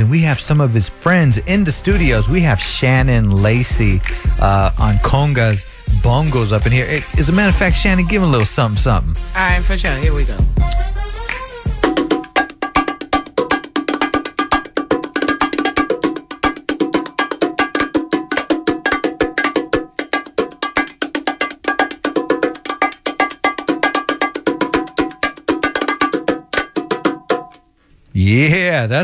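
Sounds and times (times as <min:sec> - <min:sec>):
conga and bongo drumming: 0:01.7 - 0:27.8.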